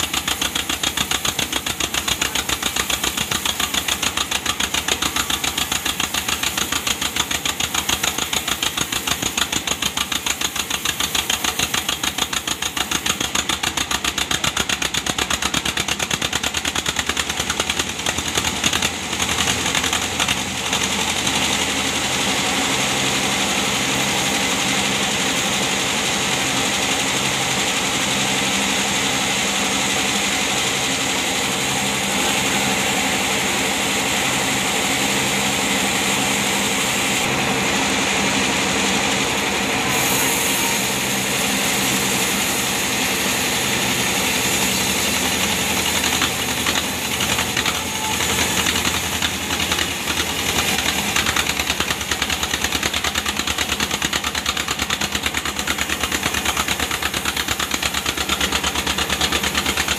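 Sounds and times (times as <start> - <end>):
saw blade hissing through log: 0.0 - 14.4, 20.8 - 59.9
sawmill machine drone: 0.0 - 59.9.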